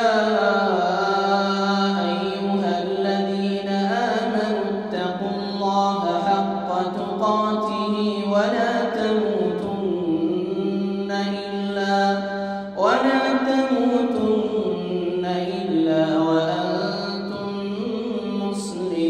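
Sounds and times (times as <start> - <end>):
man chanting melodically: 0.0 - 19.0.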